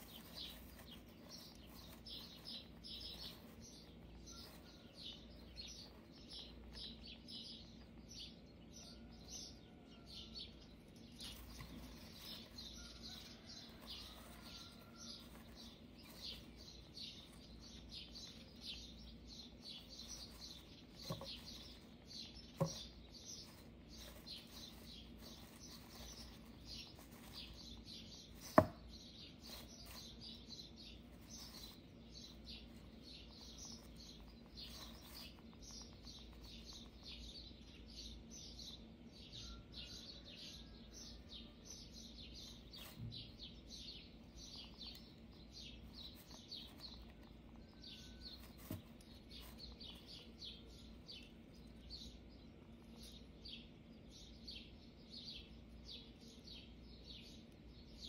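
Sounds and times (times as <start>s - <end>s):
rustling in wood shavings: 0.0s - 54.8s.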